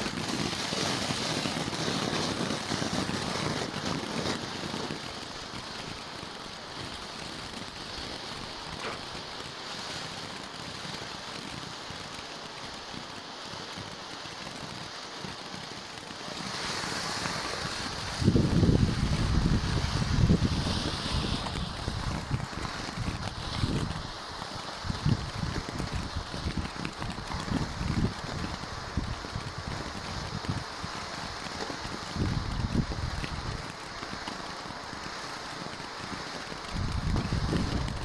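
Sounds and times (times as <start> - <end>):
firework fountain hissing: 0.0 - 38.0.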